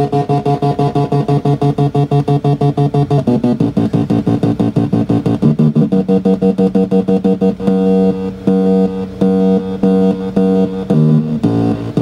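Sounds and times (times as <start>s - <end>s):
electronic note sequence: 0.0s - 12.0s.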